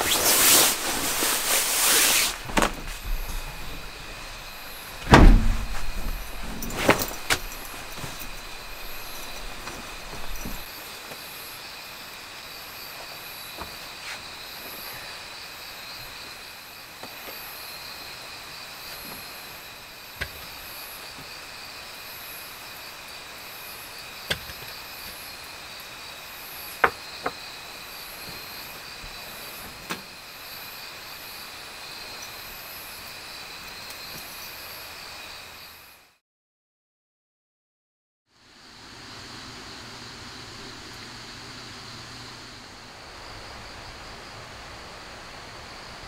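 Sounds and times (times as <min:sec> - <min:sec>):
high-pitched insect chorus: 0:00.0 - 0:36.2, 0:38.4 - 0:46.0.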